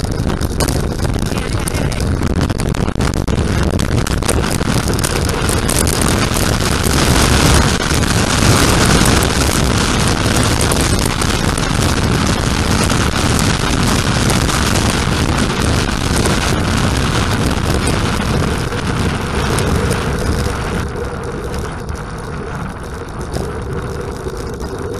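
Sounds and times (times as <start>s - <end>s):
wind roaring over microphone: 0.0s - 24.9s.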